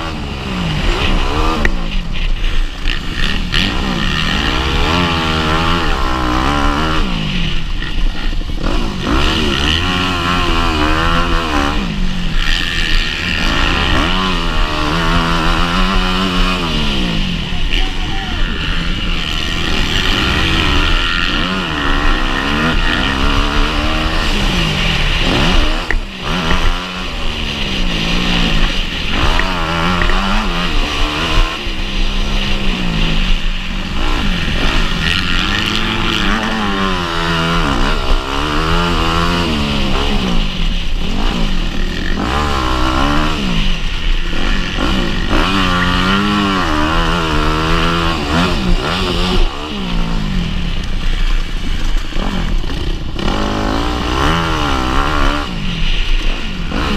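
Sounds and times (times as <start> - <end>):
motocross bike engine revving: 0.0 - 56.9.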